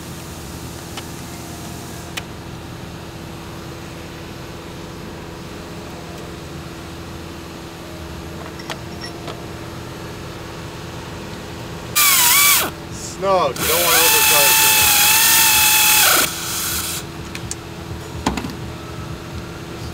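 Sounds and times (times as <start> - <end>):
low mechanical hum: 0.0 - 19.9.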